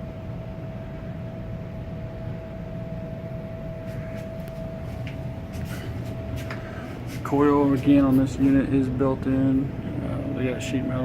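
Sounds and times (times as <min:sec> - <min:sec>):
constant whine: 0:00.0 - 0:11.0
hvac equipment humming: 0:00.0 - 0:11.0.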